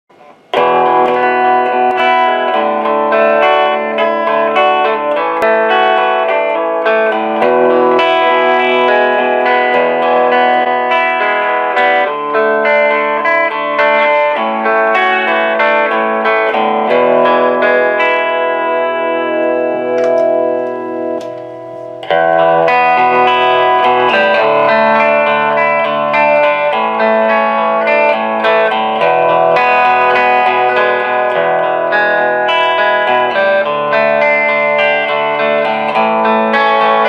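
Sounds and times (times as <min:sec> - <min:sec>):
clean electric guitar chords: 0:00.1 - 0:37.0.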